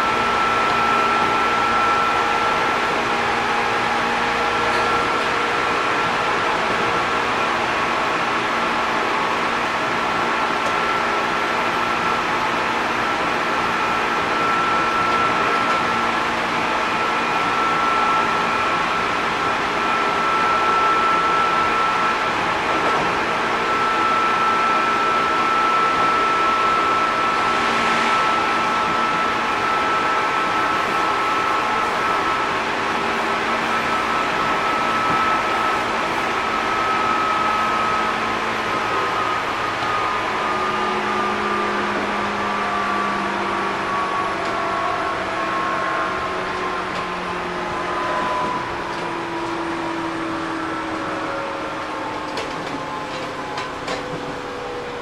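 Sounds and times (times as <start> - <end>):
traction motor whine: 0.0 - 55.0
train running on rails: 0.0 - 55.0.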